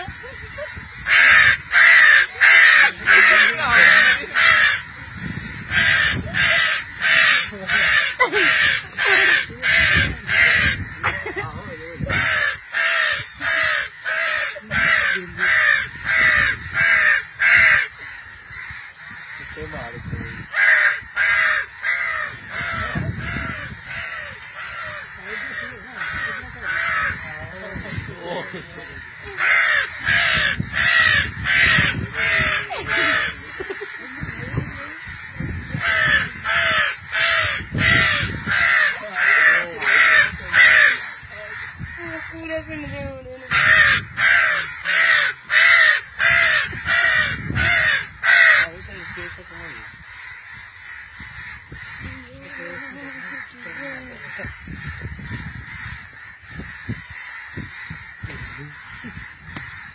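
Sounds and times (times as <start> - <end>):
crow cawing: 0.0 - 59.9.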